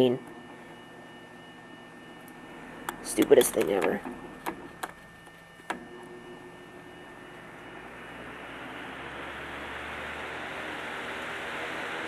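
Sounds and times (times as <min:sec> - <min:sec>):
electric fan whoosh and hum: 0:00.0 - 0:12.0.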